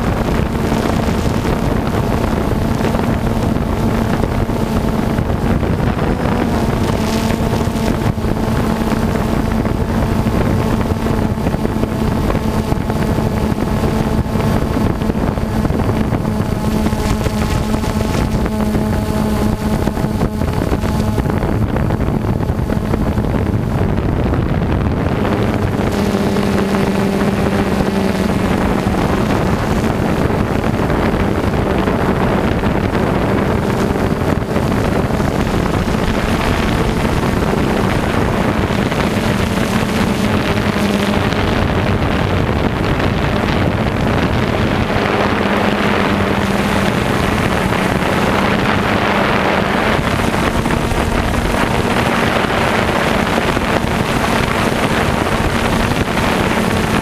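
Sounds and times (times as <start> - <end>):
drone propellers humming: 0.0 - 57.0
wind noise on microphone: 0.0 - 57.0.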